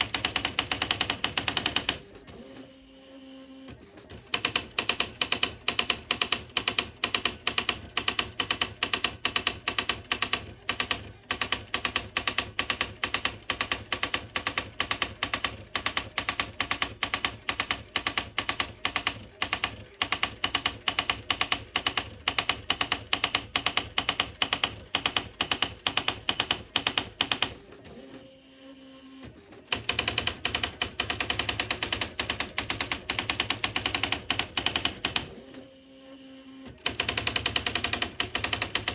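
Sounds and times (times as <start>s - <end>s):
electric typewriter typing: 0.0s - 2.1s, 4.1s - 27.6s, 29.7s - 35.5s, 36.8s - 38.9s.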